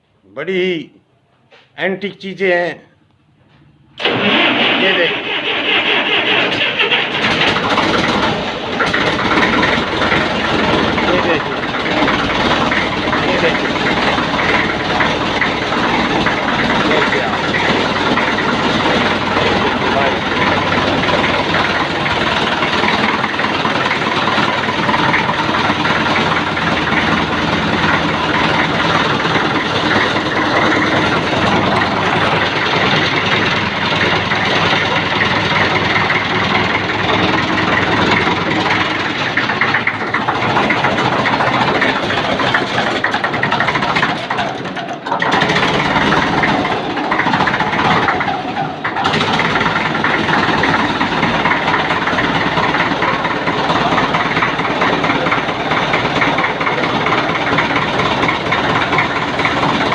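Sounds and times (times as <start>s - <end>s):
tractor engine idling: 3.0s - 59.9s.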